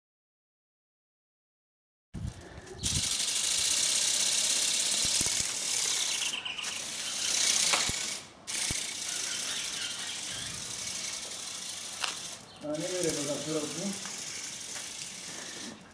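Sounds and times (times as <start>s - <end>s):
ratcheting whirr of gears: 2.2s - 15.8s.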